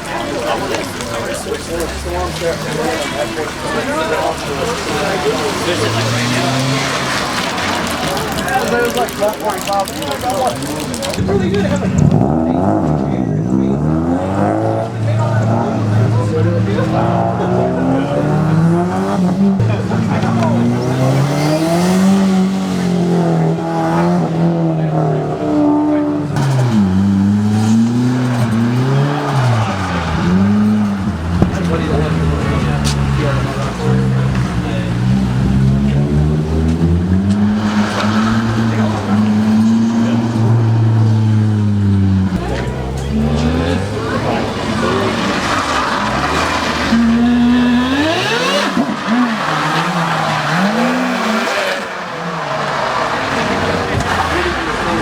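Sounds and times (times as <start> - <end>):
car engine revving under throttle: 0.0 - 55.0
tyre and road noise: 0.0 - 55.0.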